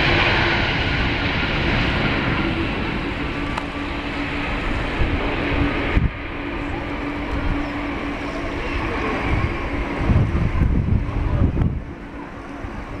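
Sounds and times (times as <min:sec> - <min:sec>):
jet engines running: 0:00.0 - 0:13.0
wind buffeting microphone: 0:00.0 - 0:13.0.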